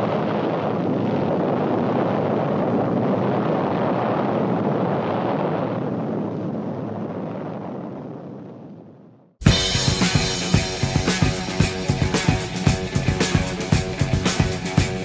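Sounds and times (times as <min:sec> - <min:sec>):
explosion rumble: 0:00.0 - 0:15.0.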